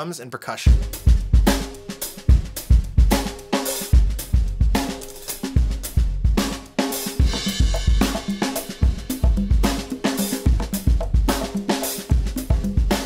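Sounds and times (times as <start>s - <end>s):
drum kit groove: 0.0s - 13.0s.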